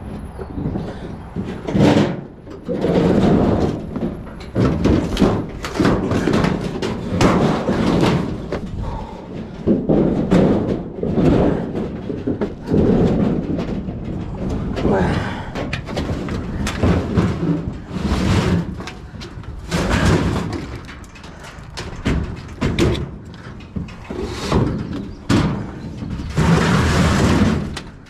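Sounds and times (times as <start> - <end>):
junk clattering and scraping: 0.0 - 28.0.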